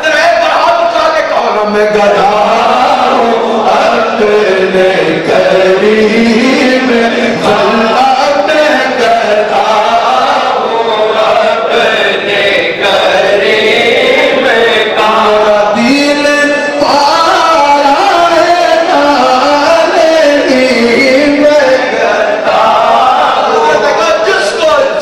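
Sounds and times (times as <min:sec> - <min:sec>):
men chanting together: 0:02.0 - 0:25.0.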